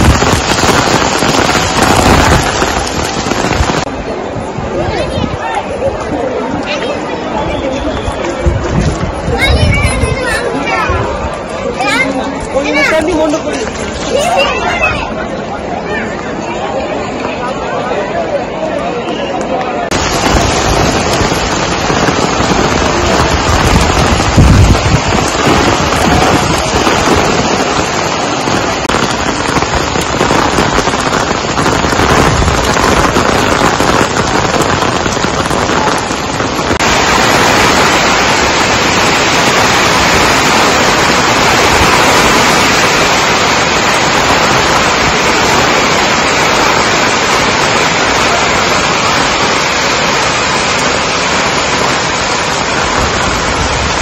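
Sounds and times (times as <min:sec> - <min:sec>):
heavy rain on wet paving: 0:00.0 - 0:54.0.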